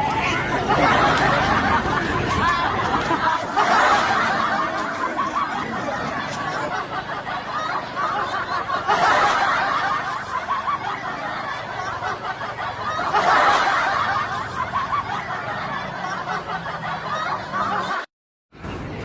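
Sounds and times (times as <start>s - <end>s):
people laughing and snickering: 0.0s - 18.1s.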